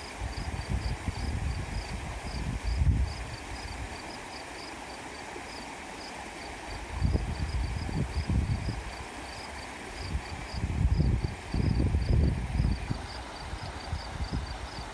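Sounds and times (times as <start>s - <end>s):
flowing water rushing: 0.0s - 14.9s.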